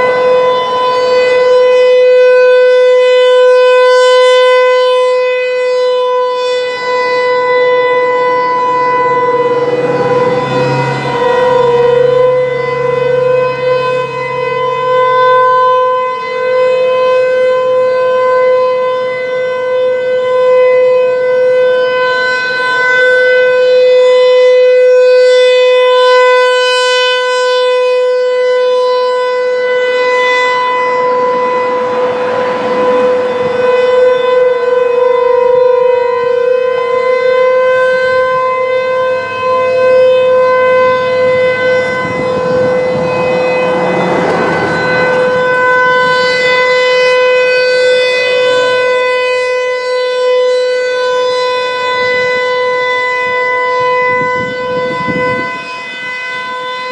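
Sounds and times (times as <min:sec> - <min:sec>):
warning siren steady tone: 0:00.0 - 0:56.9.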